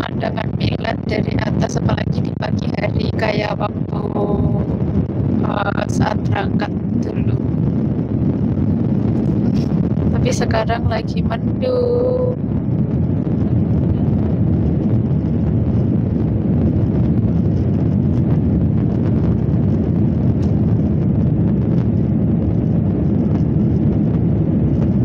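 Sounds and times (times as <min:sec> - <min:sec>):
jet airliner cabin drone: 0:00.0 - 0:25.0.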